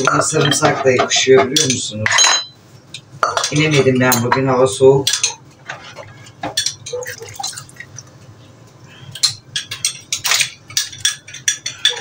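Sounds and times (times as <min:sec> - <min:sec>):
utensils clinking against dish: 0:00.0 - 0:07.9, 0:09.0 - 0:12.0.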